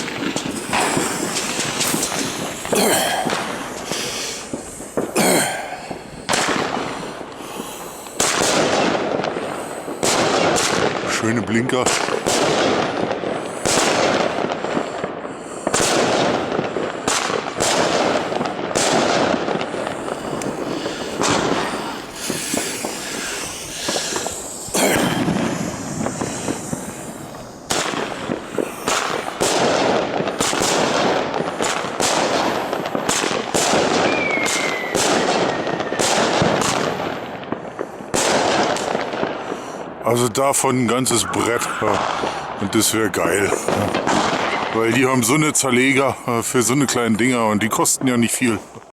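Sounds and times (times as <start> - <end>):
firework bangs and pops: 0.0 - 48.9
firework crackling: 0.0 - 48.9.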